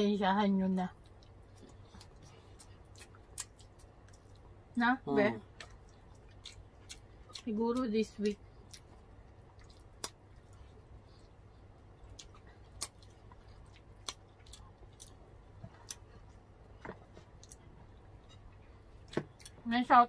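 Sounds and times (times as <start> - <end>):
faint chewing and mouth sounds: 0.7 - 20.0.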